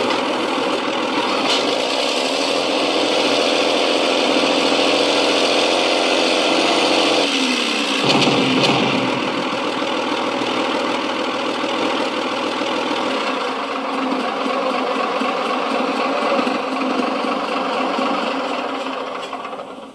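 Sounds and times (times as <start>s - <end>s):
tank diesel engine idling: 0.0s - 19.9s.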